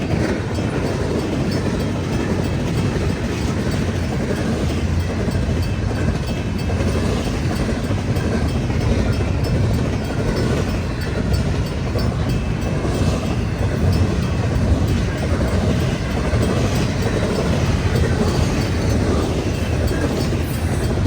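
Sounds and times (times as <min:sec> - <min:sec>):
train cars rumbling past: 0:00.0 - 0:21.0.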